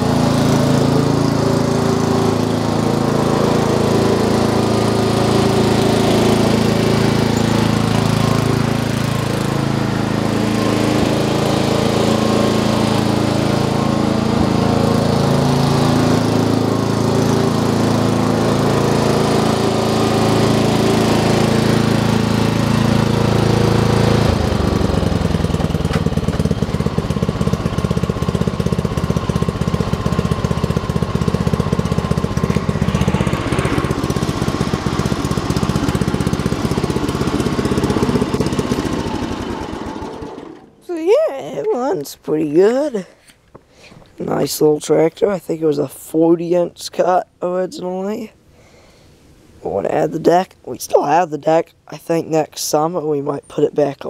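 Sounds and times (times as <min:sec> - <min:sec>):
lawn tractor engine running: 0:00.0 - 0:46.2.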